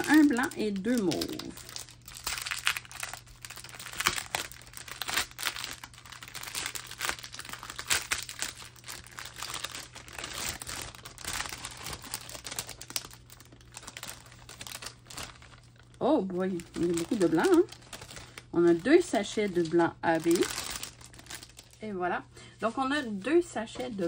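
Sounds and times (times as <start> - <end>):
plastic bag crinkling: 0.0 - 21.8.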